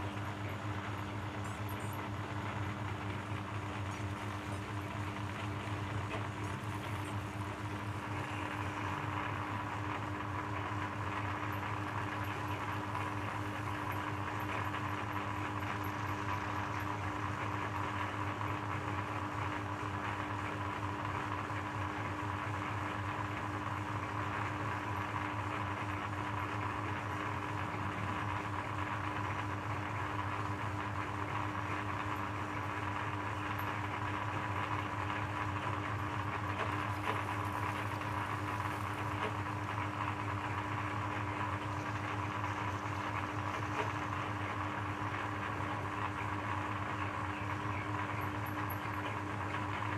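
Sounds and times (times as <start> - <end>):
shredder machine humming: 0.0 - 49.9.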